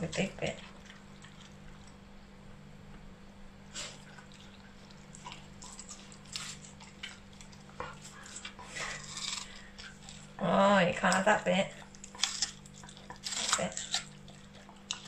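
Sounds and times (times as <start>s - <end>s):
puppy licking and chewing: 0.0s - 2.0s, 3.7s - 10.4s, 11.0s - 15.0s.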